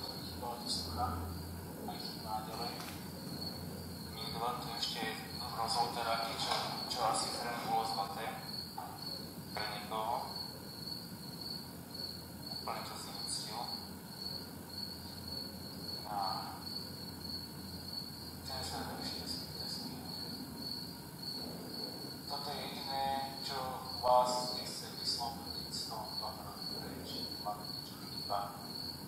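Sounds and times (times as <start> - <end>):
faint murmurs: 0.0 - 11.2, 12.2 - 17.6, 18.3 - 29.0
cricket chirping: 0.0 - 29.0.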